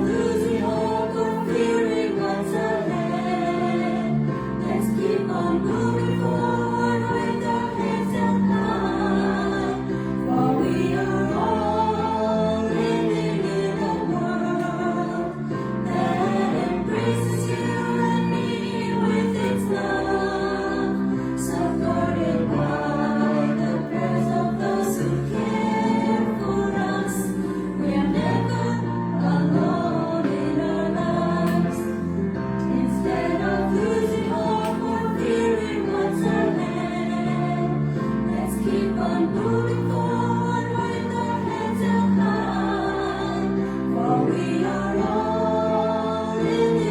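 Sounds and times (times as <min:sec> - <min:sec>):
choir singing slow piece: 0:00.0 - 0:46.9.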